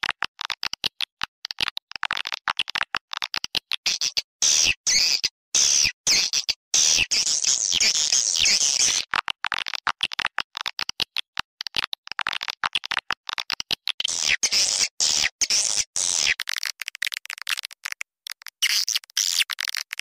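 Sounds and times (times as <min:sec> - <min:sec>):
fast clicking twitter: 0:01.6 - 0:09.1, 0:10.2 - 0:20.0.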